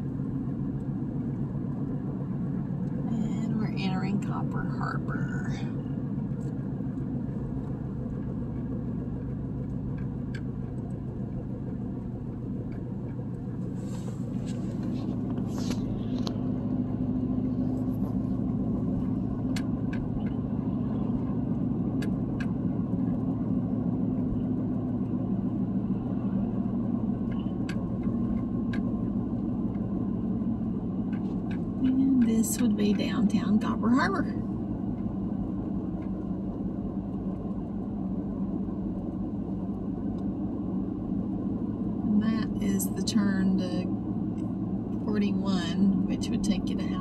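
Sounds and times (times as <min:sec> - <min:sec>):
engine and tyre drone: 0:00.0 - 0:47.0.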